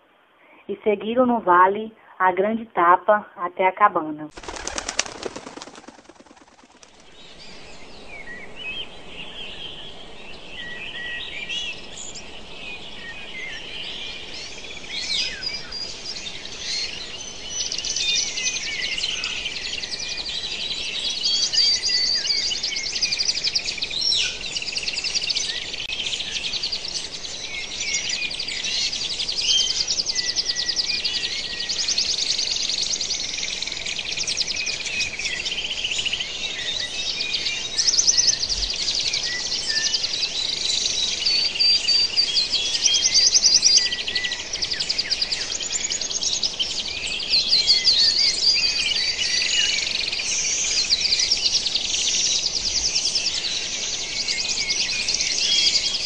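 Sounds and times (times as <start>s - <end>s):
chorus of birds chirping: 0.4s - 56.0s.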